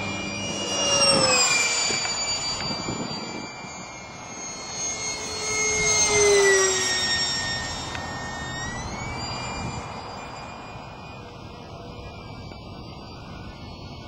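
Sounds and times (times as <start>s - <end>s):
electric fan jet whining: 0.0s - 14.0s.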